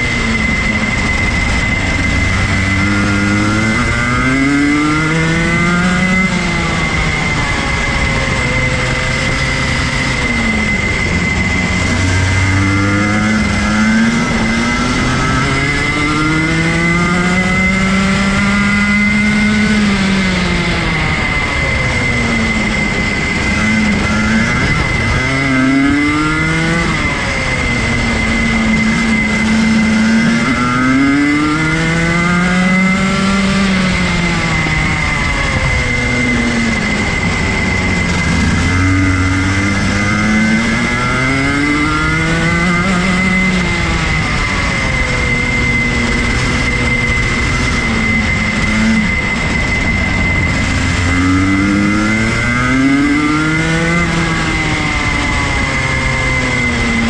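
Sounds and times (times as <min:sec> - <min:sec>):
kart engine revving: 0:00.0 - 0:57.0
steady high whine: 0:00.0 - 0:57.0.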